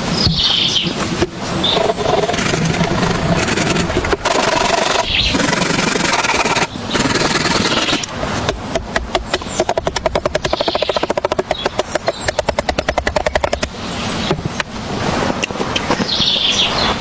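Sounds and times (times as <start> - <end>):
rasping scraping strokes: 0.8 - 16.8.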